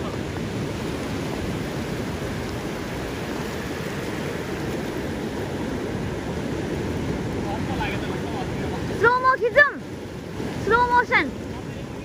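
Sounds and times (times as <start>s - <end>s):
surf washing: 0.0s - 12.0s
wind rumbling on microphone: 0.0s - 12.0s.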